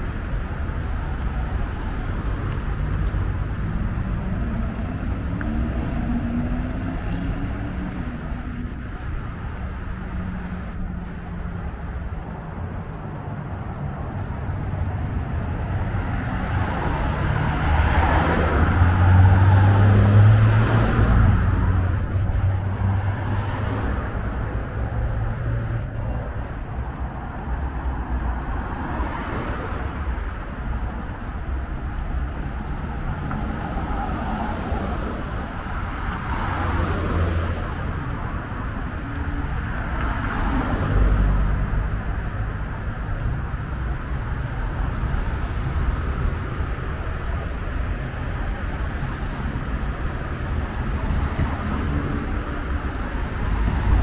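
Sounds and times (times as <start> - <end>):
cars passing close: 0.0 - 54.0
road traffic rush: 0.0 - 54.0.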